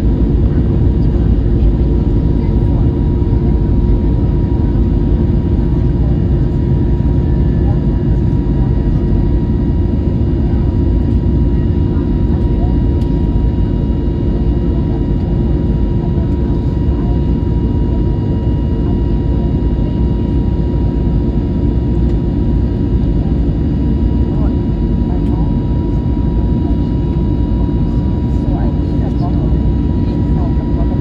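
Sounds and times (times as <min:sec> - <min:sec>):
jet engine cabin rumble and whine: 0:00.0 - 0:31.0.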